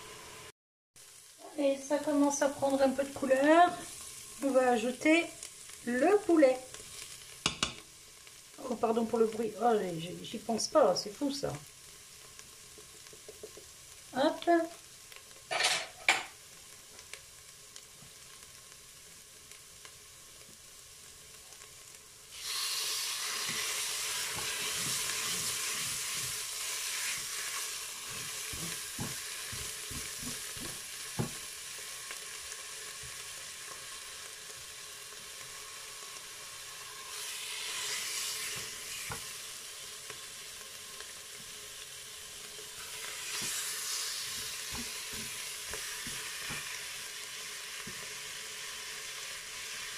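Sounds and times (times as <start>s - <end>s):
chicken sizzling in hot oil: 0.0s - 49.9s.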